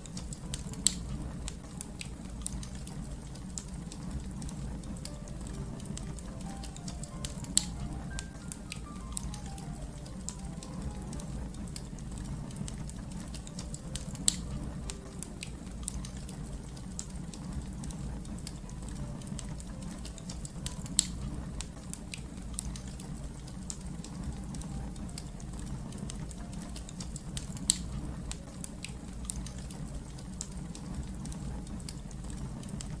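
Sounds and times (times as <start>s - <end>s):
fire pops: 0.0s - 31.5s
wood fire crackling: 0.0s - 33.0s.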